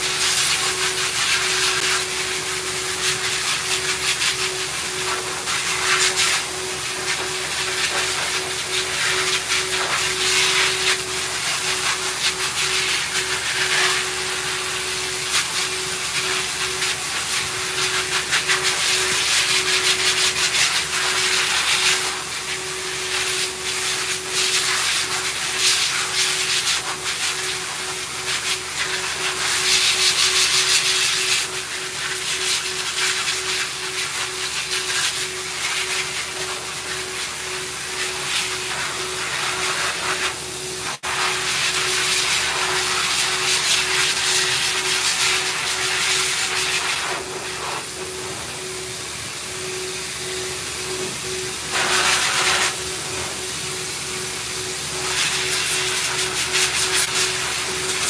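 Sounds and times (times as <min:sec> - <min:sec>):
pet dryer blowing air: 0:00.0 - 0:58.0.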